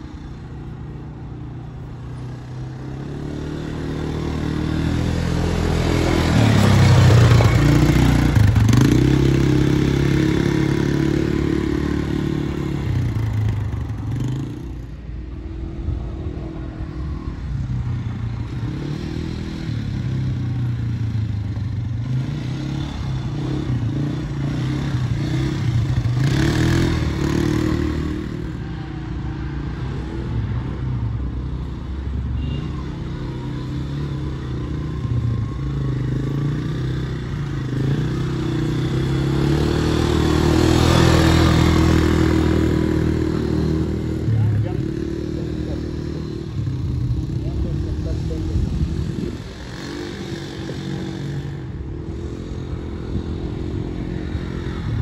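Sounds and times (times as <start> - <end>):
quad bike engine revving: 2.2 - 14.7, 18.4 - 28.8, 31.4 - 55.0.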